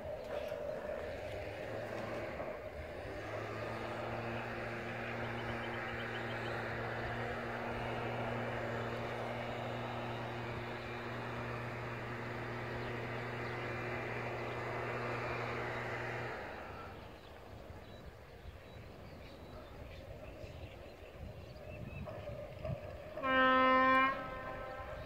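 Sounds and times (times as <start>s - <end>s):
broad rushing noise: 0.0s - 25.0s
diesel locomotive engine hum: 0.0s - 25.0s.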